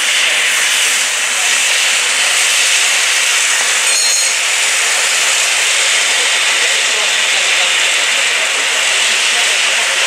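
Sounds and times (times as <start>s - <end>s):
steam hissing: 0.0s - 10.0s.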